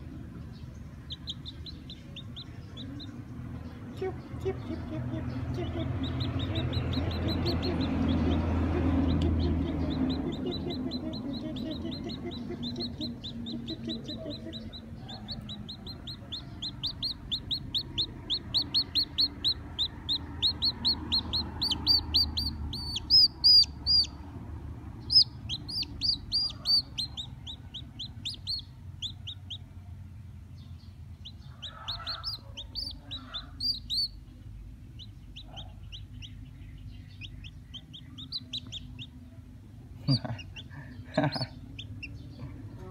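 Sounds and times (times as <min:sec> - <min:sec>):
chick peeping: 0:00.5 - 0:24.2, 0:24.9 - 0:29.8, 0:30.6 - 0:42.9.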